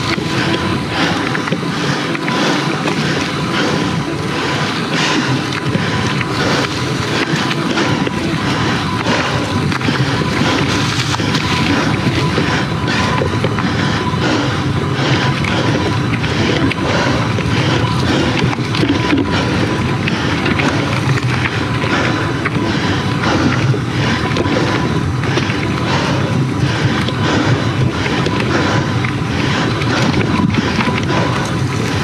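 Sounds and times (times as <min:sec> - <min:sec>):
bike clattering and rattling: 0:00.0 - 0:32.0
bike tyres on dirt trail: 0:00.0 - 0:32.0.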